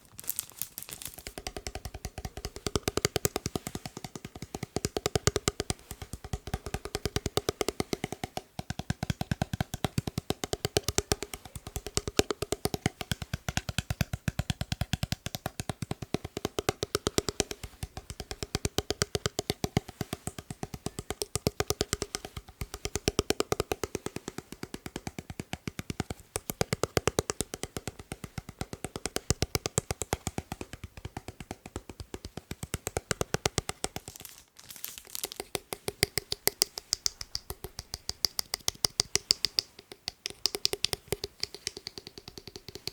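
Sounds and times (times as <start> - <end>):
quick tapping on hard object: 1.1 - 34.4, 35.1 - 42.9.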